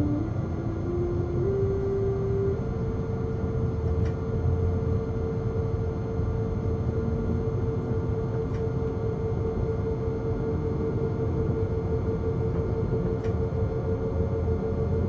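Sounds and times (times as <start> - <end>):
electric traction whine: 0.0 - 15.0.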